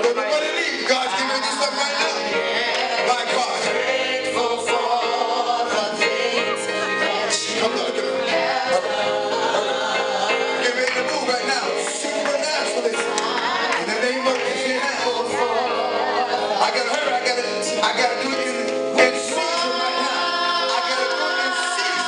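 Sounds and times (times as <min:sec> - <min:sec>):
musical backing over loudspeakers: 0:00.0 - 0:22.0
people singing gospel song: 0:00.0 - 0:22.0.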